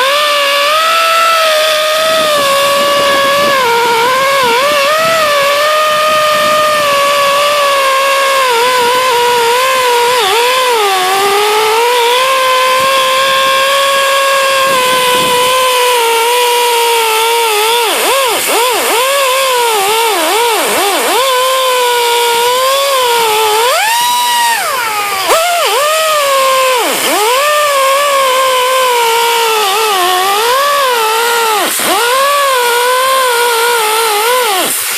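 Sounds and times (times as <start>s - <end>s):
power tool whining: 0.0s - 34.9s.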